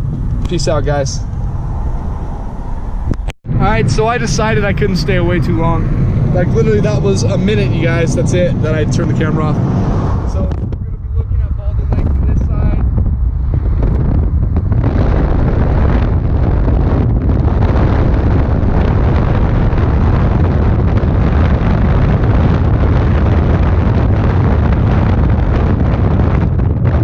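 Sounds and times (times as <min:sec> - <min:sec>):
car road noise: 0:00.0 - 0:27.0
wind buffeting microphone: 0:00.0 - 0:27.0.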